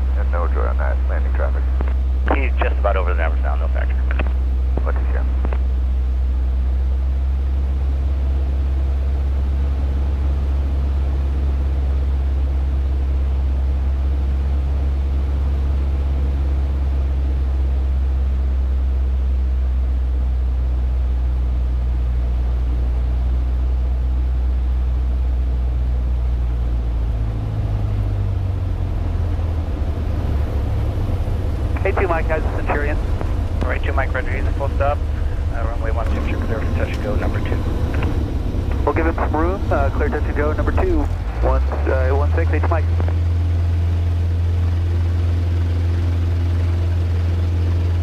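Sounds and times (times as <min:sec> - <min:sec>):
airplane engine and propeller droning: 0:00.0 - 0:48.0.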